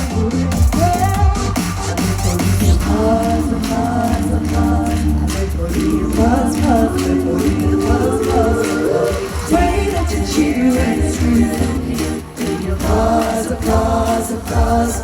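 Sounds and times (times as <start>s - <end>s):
amplified pop backing track: 0.0s - 15.0s
singers in close harmony: 2.5s - 15.0s.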